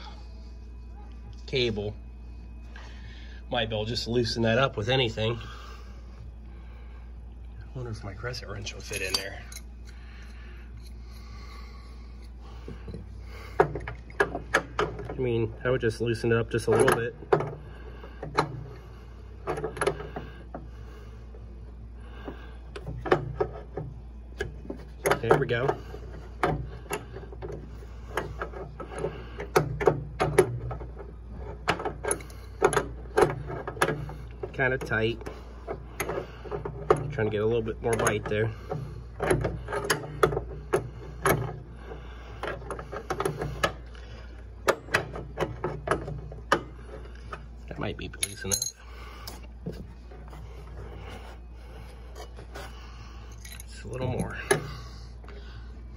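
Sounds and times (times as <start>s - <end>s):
low hum: 0.0s - 55.9s.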